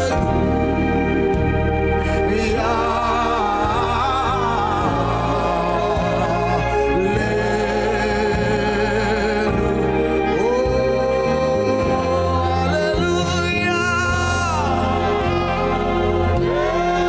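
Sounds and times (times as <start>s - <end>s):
person singing with vibrato: 0.0s - 0.6s, 2.0s - 17.0s
held chords: 0.0s - 17.0s
steady bass: 0.0s - 17.0s.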